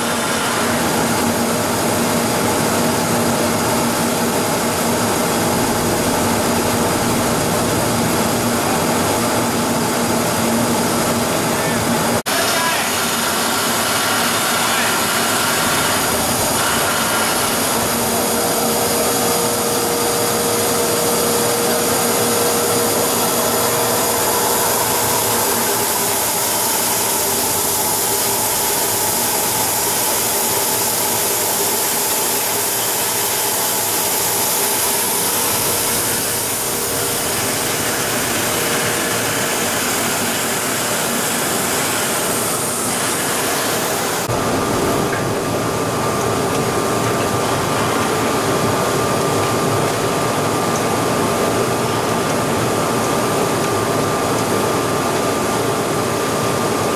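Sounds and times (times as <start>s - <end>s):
recycling machinery din: 3.8s - 55.9s.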